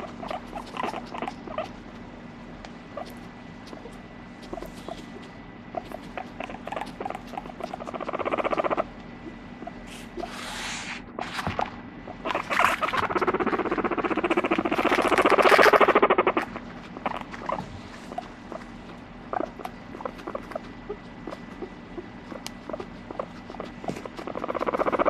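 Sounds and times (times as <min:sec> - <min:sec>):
guinea pig purring: 0:00.0 - 0:25.0.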